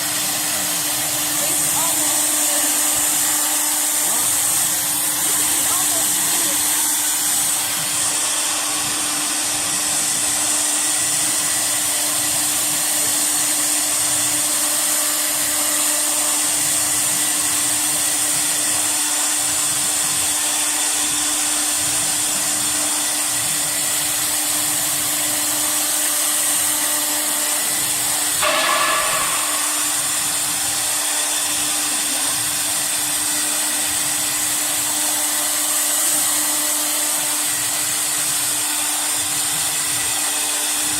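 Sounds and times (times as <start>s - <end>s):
router spindle whirring: 0.0s - 40.9s.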